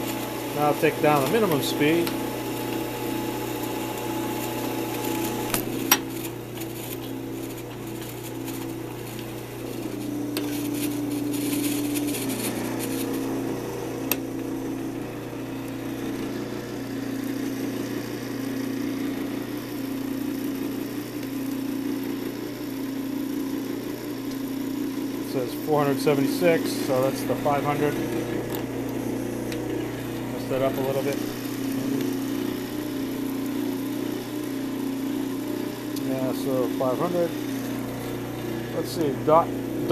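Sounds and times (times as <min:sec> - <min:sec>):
wood lathe motor hum: 0:00.0 - 0:39.9.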